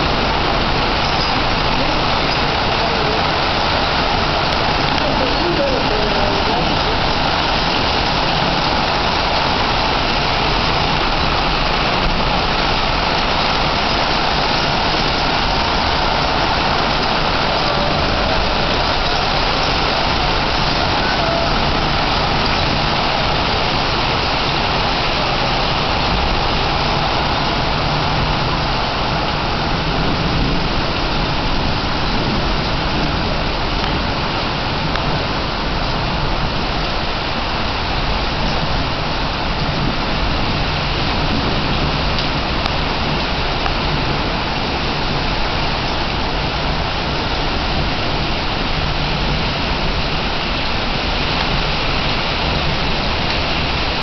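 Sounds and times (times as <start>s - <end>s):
torrential rain on lawn and paving: 0.0s - 54.0s.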